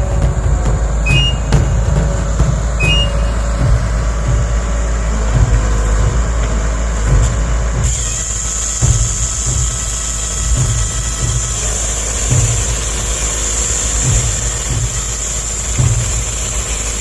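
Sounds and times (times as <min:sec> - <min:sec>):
heavy engine rumbling: 0:00.0 - 0:17.0
hiss: 0:00.0 - 0:17.0.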